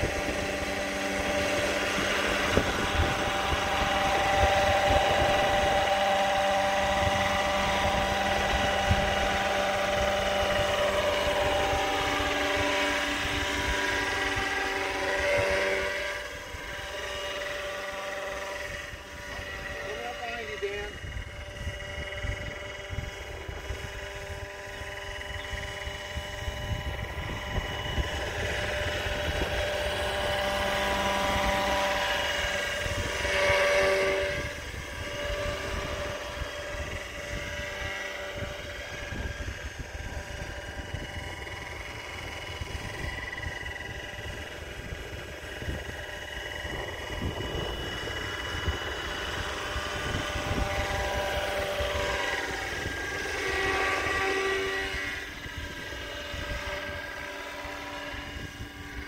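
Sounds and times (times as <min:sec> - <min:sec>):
model helicopter rotor whine: 0:00.0 - 0:59.0
wind rumbling on microphone: 0:00.0 - 0:59.0.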